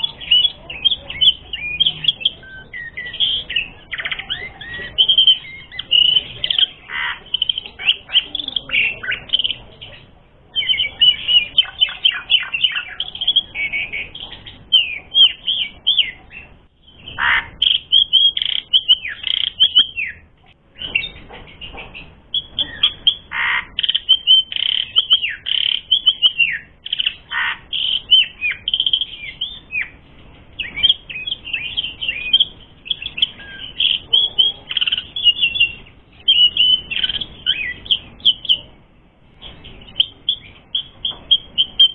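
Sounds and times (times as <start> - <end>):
starling singing chattering song: 0.0 - 41.9.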